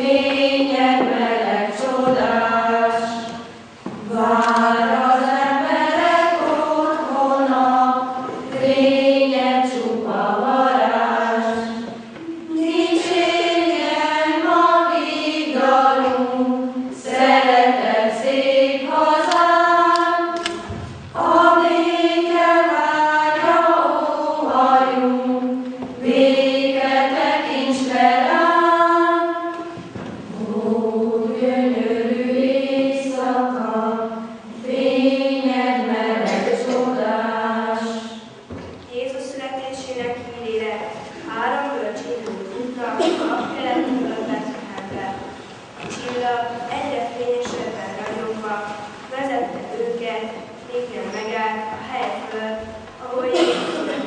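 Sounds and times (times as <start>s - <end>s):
girls choir singing: 0.0s - 38.6s, 40.4s - 54.0s.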